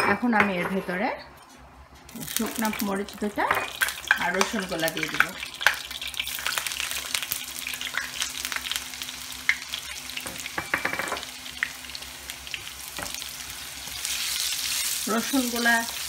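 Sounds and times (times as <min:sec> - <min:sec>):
garlic sizzling in hot oil: 0:02.1 - 0:16.0.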